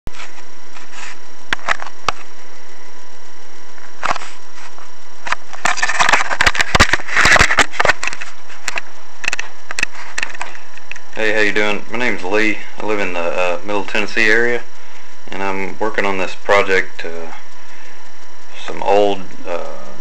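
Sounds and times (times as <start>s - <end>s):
background hum: 0.1s - 20.0s.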